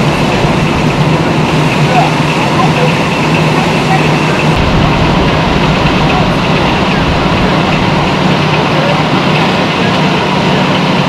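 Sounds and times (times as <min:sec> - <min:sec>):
low engine hum: 0:00.0 - 0:11.0
wind rushing over microphone: 0:00.0 - 0:11.0.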